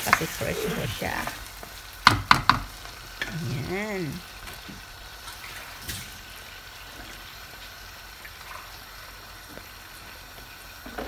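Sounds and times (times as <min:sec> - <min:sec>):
food sizzling and bubbling in pan: 0:00.0 - 0:11.0.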